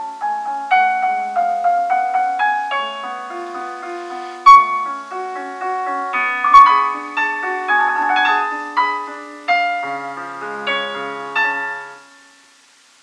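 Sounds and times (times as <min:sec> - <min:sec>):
solo piano playing: 0:00.0 - 0:12.4.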